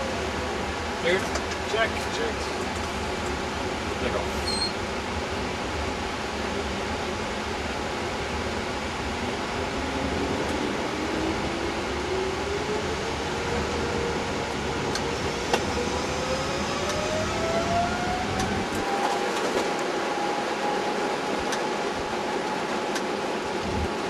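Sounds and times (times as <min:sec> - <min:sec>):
jet engine whine: 0:00.0 - 0:24.0.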